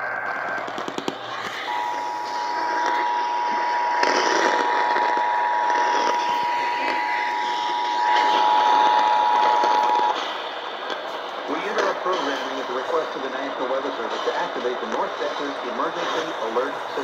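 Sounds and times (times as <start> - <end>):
radio hiss: 0.0 - 17.0.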